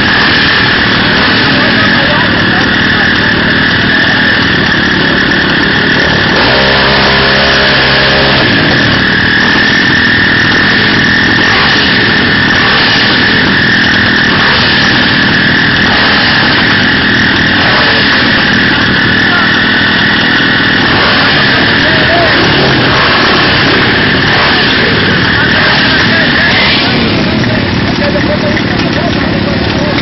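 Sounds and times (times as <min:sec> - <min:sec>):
dirt bike passing by: 0:00.0 - 0:28.7
dirt bike engines running: 0:00.0 - 0:30.0.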